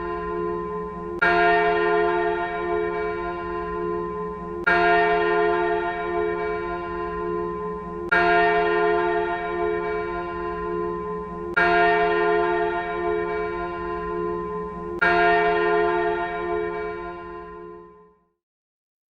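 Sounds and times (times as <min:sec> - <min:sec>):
church bell tolling: 0:00.0 - 0:18.3.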